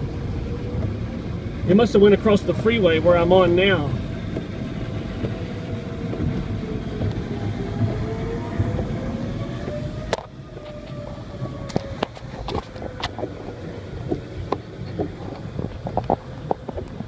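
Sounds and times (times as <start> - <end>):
road rumble inside car: 0.0 - 17.0.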